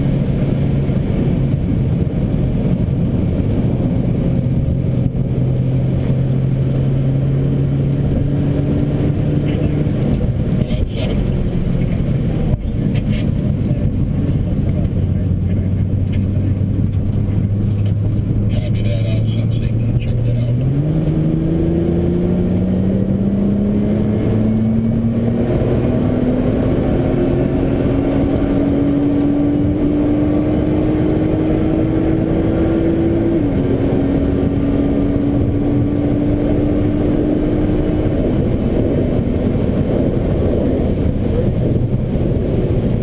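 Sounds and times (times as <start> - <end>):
car engine accelerating: 0.0 - 43.0
tyre and road noise on wet track: 0.0 - 43.0.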